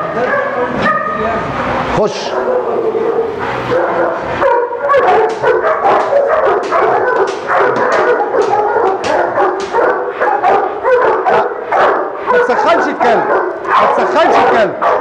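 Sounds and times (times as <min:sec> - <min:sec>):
dogs barking aggressively: 0:00.0 - 0:15.0.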